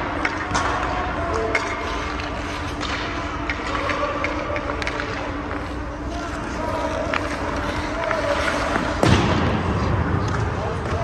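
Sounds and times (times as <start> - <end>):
hockey sticks and pucks clacking: 0.0 - 11.0
steady low hum: 0.0 - 11.0.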